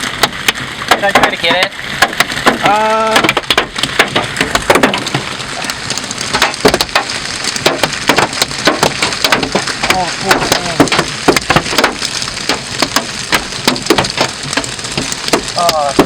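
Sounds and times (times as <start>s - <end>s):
hail hammering vehicle roof: 0.0s - 16.0s.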